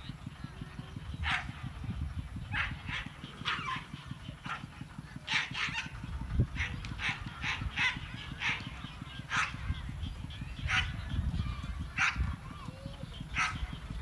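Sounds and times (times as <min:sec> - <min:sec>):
dogs barking and yipping: 0:01.2 - 0:01.7, 0:02.4 - 0:14.0.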